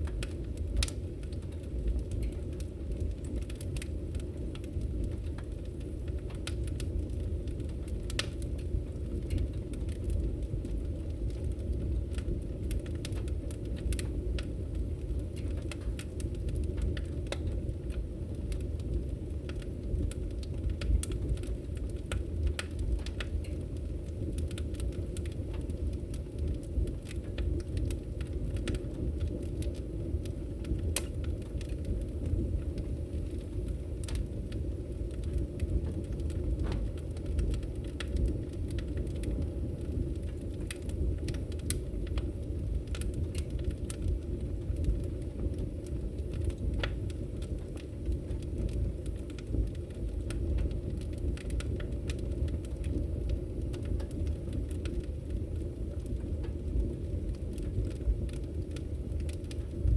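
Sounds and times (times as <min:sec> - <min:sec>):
campfire rumble: 0:00.0 - 0:59.9
fire crackles and pops: 0:00.0 - 0:59.9.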